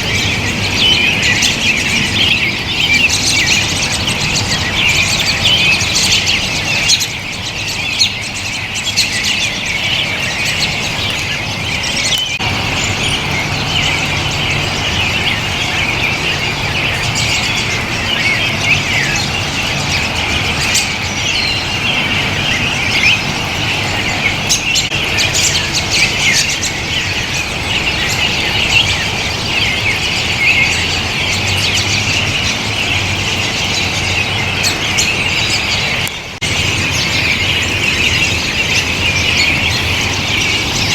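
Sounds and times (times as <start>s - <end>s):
flock of robins chirping: 0.0s - 40.9s.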